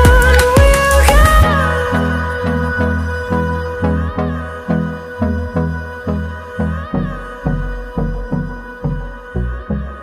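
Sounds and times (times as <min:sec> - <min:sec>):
deep bass pulses: 0:00.0 - 0:10.0
sustained synth tones: 0:00.0 - 0:10.0.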